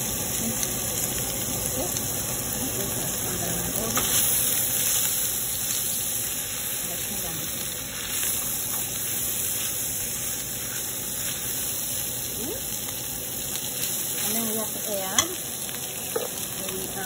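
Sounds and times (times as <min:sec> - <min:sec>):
meat sizzling in frying pan: 0:00.0 - 0:17.0.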